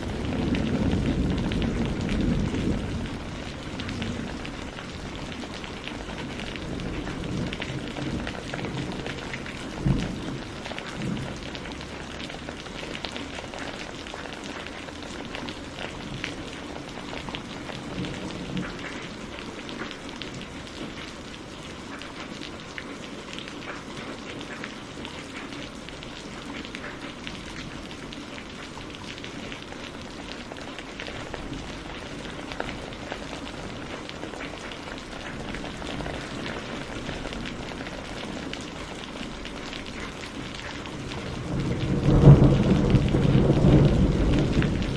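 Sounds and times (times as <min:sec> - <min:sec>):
rain on hard surfaces: 0:00.0 - 0:44.9.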